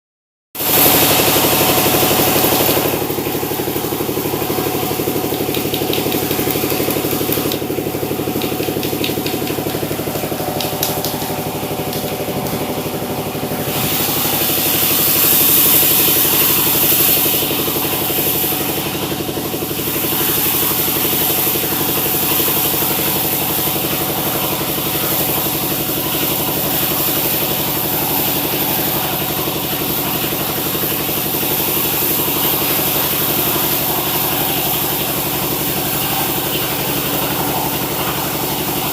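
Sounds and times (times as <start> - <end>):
sawmill machinery humming: 0.6 - 38.9.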